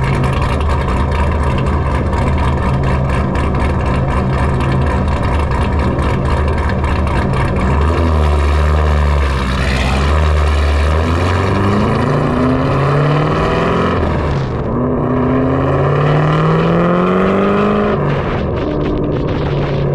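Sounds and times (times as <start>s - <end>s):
car engine accelerating hard: 0.0s - 19.9s.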